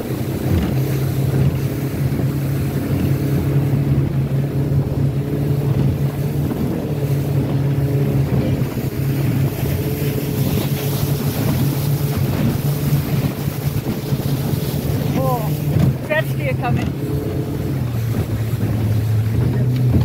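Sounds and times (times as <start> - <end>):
boat wake rushing: 0.0 - 20.0
outboard motor droning: 0.0 - 20.0
wind buffeting microphone: 0.0 - 20.0.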